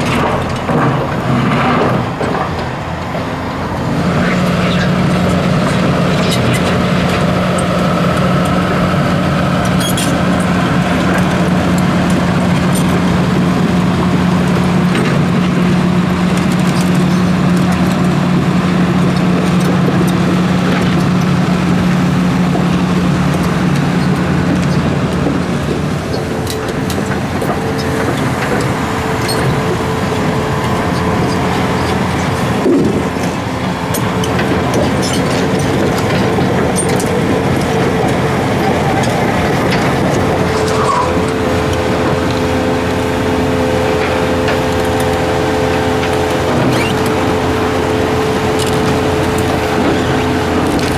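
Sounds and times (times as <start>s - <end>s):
excavator diesel engine humming: 0.0s - 50.9s.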